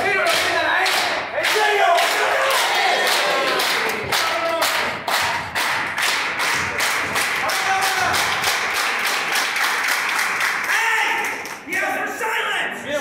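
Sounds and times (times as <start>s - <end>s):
crowd clapping in rhythm: 0.0s - 11.9s.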